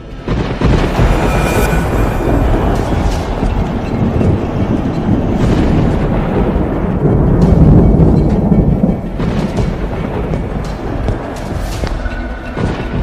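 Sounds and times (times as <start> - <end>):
deep rumbling thunder: 0.0 - 11.6
dramatic film music: 0.0 - 13.0.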